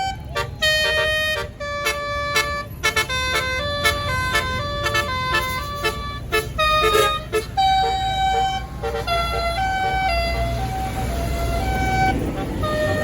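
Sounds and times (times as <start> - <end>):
low engine rumble: 0.0 - 13.0
multi-tone air horn melody: 0.0 - 13.0.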